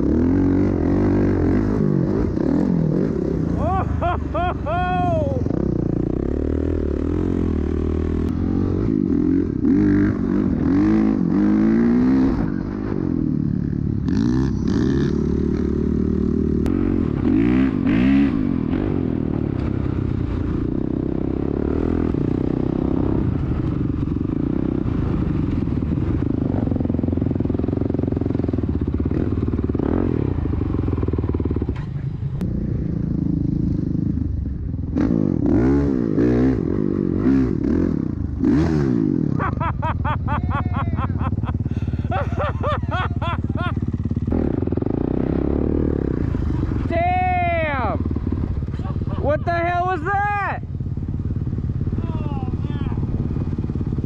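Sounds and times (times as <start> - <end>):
dirt bike engine revving: 0.0 - 32.0, 34.9 - 54.0.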